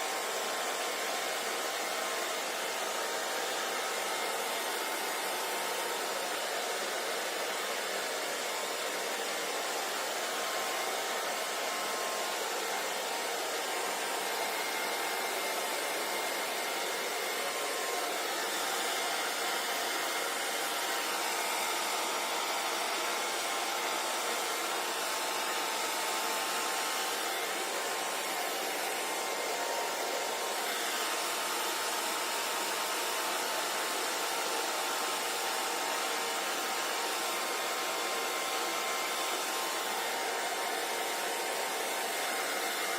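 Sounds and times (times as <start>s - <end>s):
hair dryer running: 0.0s - 42.9s.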